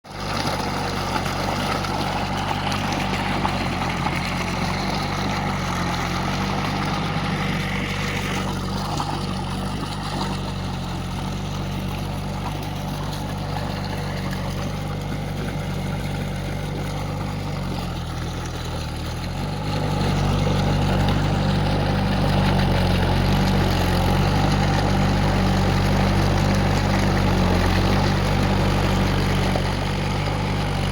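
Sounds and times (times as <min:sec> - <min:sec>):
low engine hum: 0:00.0 - 0:30.9.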